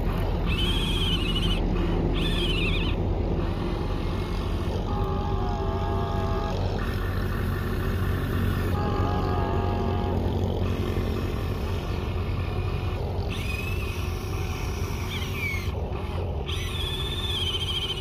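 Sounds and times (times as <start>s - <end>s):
small electric motors whining: 0.0s - 18.0s
steady low hum: 0.0s - 18.0s.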